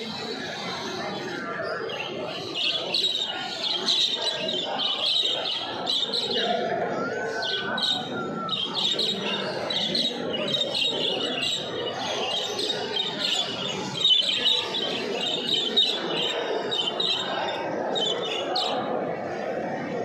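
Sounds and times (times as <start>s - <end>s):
many birds chirping and twittering: 0.0s - 20.0s
murmur of voices: 0.0s - 20.0s.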